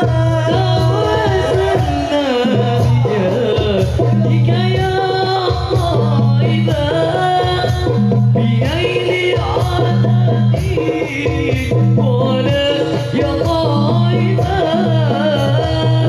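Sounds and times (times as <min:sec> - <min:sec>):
hand drums: 0:00.0 - 0:16.0
person singing: 0:00.0 - 0:16.0
steady bass line: 0:00.0 - 0:16.0.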